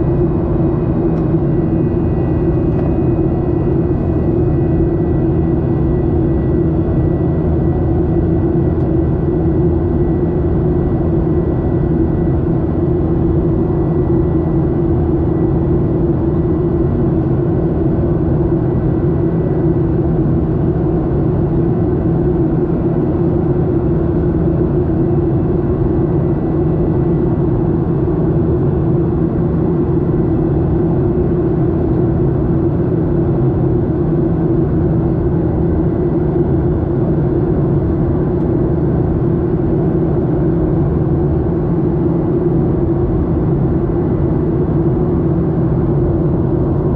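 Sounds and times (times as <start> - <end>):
airplane cabin engine drone: 0.0 - 46.9.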